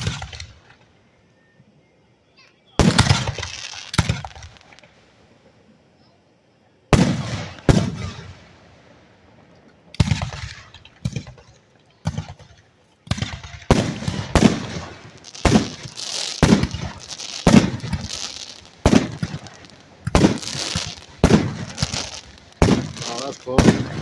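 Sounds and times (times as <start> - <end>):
firework booms: 0.0 - 0.8, 2.8 - 5.0, 6.9 - 24.0
firework crackling: 0.0 - 1.0, 2.8 - 5.6, 6.9 - 24.0.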